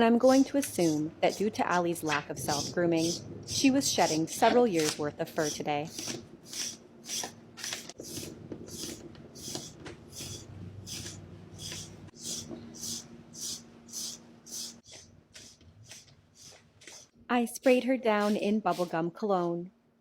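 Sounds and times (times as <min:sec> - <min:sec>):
brush scratching through cat fur: 0:00.2 - 0:19.0.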